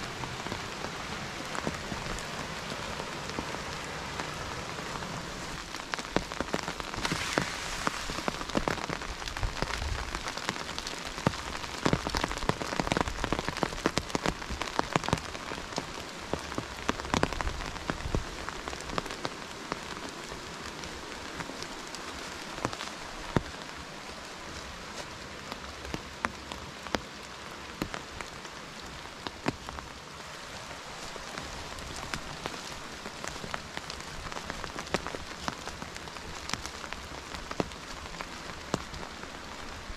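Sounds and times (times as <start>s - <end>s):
rain drops ticking: 0.0s - 39.9s
steady rain hiss: 0.0s - 39.9s.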